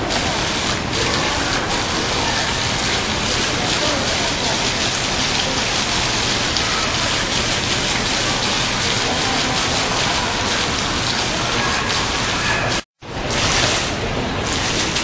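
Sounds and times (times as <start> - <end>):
water splashing in a fountain: 0.0 - 15.0.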